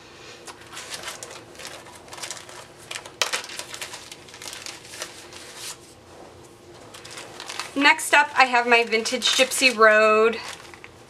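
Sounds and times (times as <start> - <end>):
packaging rustling and crinkling: 0.5 - 11.0.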